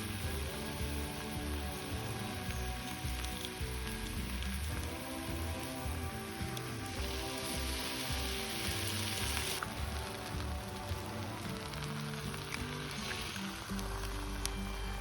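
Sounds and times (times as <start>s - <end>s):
background music with held notes: 0.0s - 15.0s
food sizzling: 0.0s - 15.0s.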